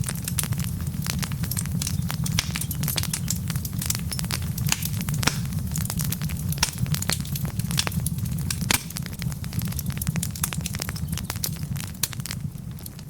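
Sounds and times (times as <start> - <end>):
low rumble of flame: 0.0 - 13.0
wood crackling and popping: 0.0 - 13.0.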